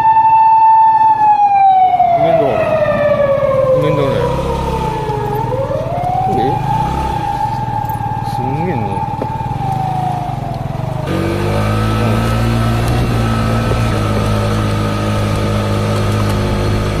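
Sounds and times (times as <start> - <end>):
police car siren wailing: 0.0 - 16.2.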